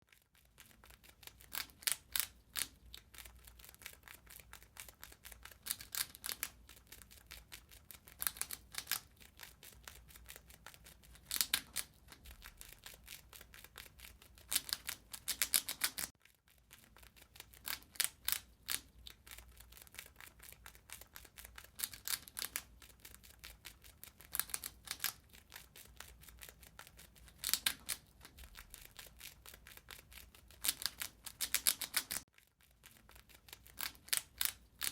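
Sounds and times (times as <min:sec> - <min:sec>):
rat gnawing and chewing: 0:00.0 - 0:34.9.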